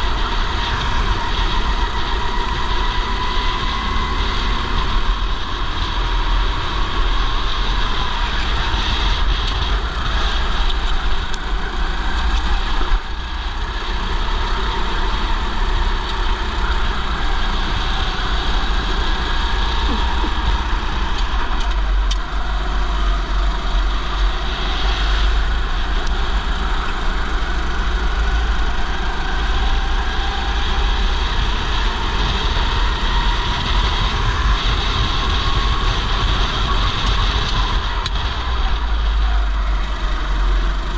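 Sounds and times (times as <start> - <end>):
go-kart engine: 0.0 - 40.9
wind rumble on camera: 0.0 - 40.9.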